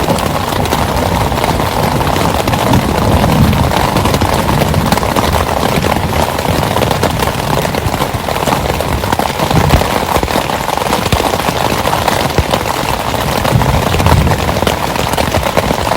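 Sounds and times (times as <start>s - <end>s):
heavy rain falling: 0.0s - 15.9s.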